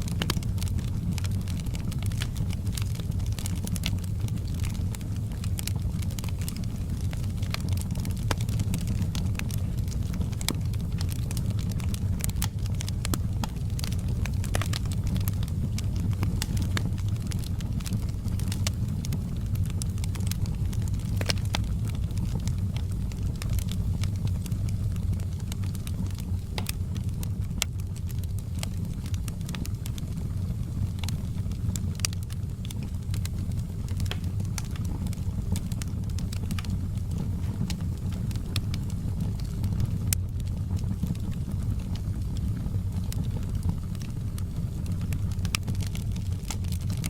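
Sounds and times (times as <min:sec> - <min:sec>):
low fire rumble: 0:00.0 - 0:47.0
wood fire crackling: 0:00.0 - 0:47.0.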